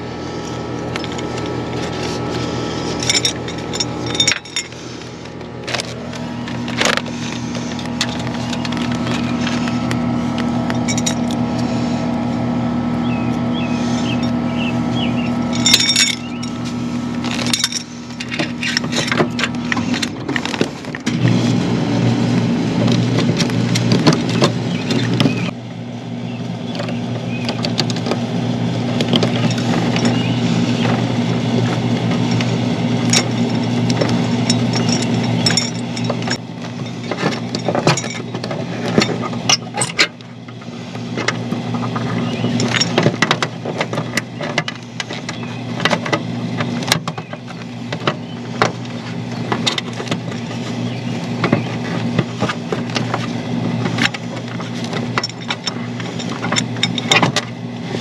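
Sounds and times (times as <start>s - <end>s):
motor drone: 0.0s - 58.0s
wires rustling and clicking: 0.4s - 11.9s, 15.4s - 21.6s, 28.9s - 58.0s.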